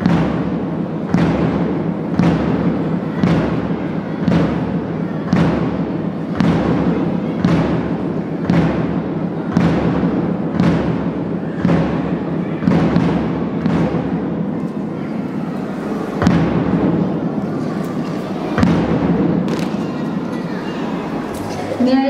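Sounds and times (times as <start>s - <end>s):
marching drum strokes: 0.0s - 14.6s, 16.0s - 20.3s
continuous background din: 0.0s - 22.0s.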